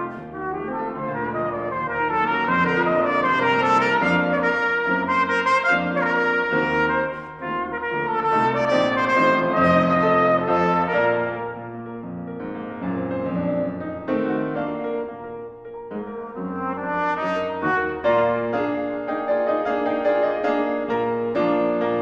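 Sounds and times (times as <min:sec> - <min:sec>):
cornet melody: 0:00.0 - 0:22.0
grand piano accompaniment: 0:00.0 - 0:22.0.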